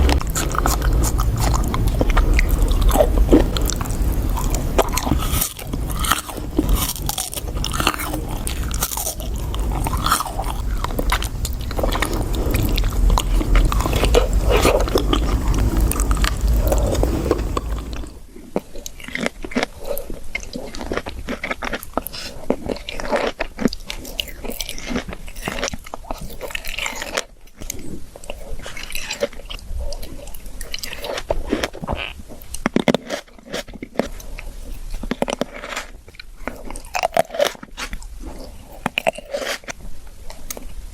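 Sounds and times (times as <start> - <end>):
person chewing fruit: 0.0 - 40.9.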